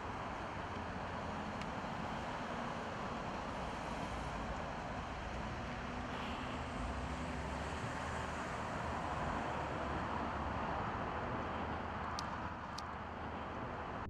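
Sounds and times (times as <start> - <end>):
distant road traffic hiss: 0.0 - 14.0.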